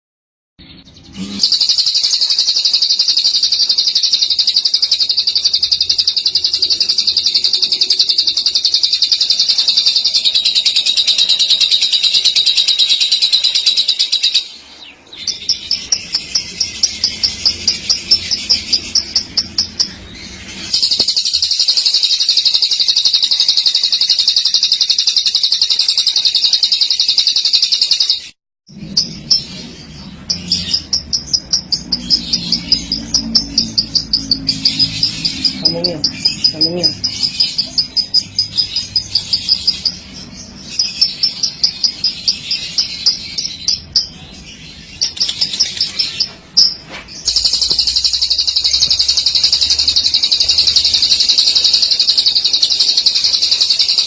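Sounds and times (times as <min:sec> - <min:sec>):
lovebird rapid chirps: 0:00.6 - 0:54.0.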